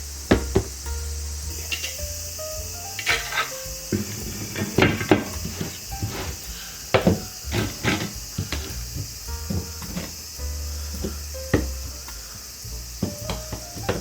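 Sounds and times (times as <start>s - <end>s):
steady music: 0.1s - 14.0s.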